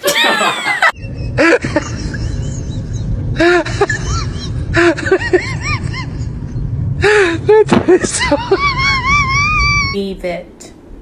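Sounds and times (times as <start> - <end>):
low rumbly noise: 0.2 - 11.0.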